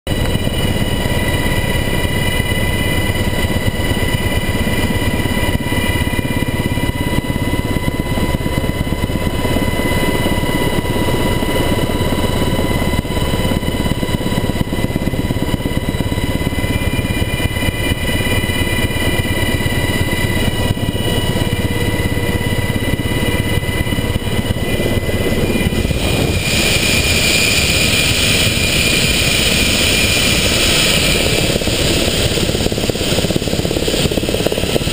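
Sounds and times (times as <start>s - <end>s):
helicopter rotor rumble: 0.1s - 34.9s
high turbine whine: 0.1s - 34.9s.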